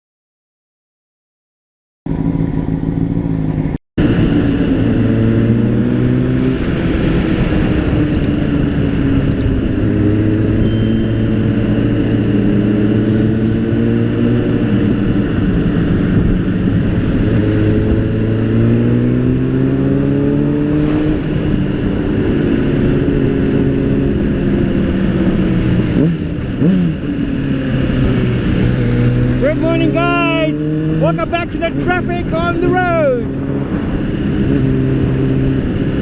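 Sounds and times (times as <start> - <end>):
motorcycle engine revving: 2.1 - 32.0, 33.2 - 36.0
road noise: 2.1 - 36.0.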